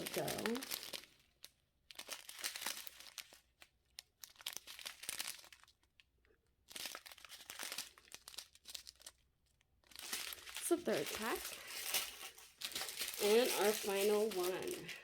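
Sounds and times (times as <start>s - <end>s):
plastic packets crinkling: 0.0s - 15.0s.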